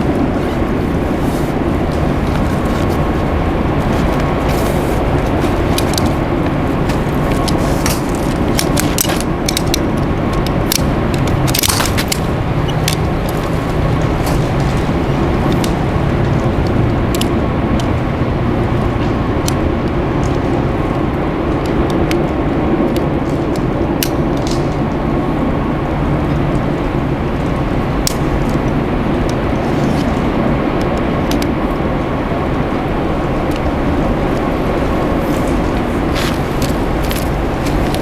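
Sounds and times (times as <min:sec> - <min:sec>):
loud steady rushing noise: 0:00.0 - 0:38.0.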